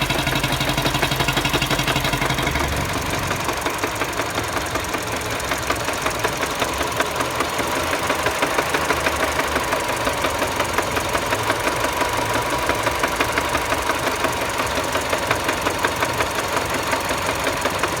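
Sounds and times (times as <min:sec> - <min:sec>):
car engine running: 0:00.0 - 0:18.0
rapid engine knock: 0:00.0 - 0:18.0.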